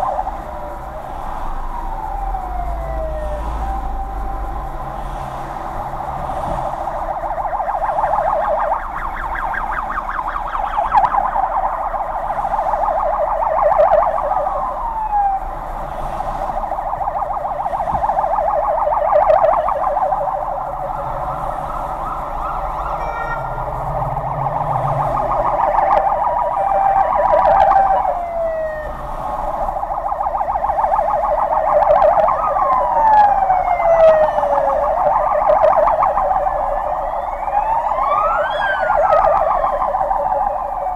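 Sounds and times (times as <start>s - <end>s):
low engine hum: 0.0s - 40.9s
police sirens warbling: 0.0s - 40.9s.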